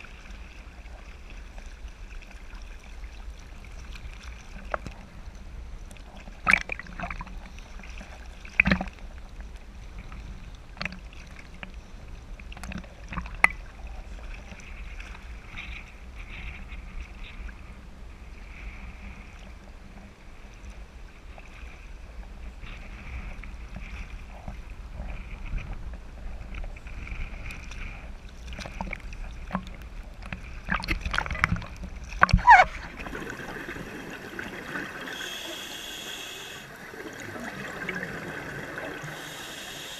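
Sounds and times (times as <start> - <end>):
dull steady rumble: 0.0 - 39.9
sea water sloshing against camera: 0.0 - 39.9.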